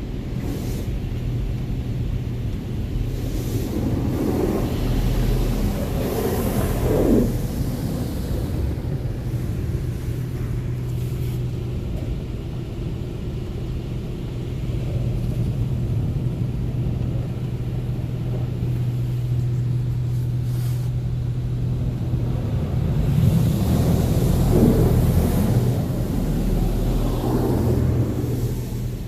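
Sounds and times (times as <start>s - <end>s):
car wash machinery rumbling: 0.0s - 29.0s.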